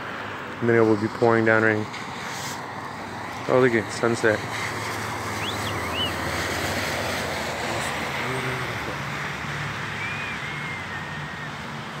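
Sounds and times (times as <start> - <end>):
tyres hissing on wet road: 0.0 - 12.0
low engine hum: 1.9 - 12.0.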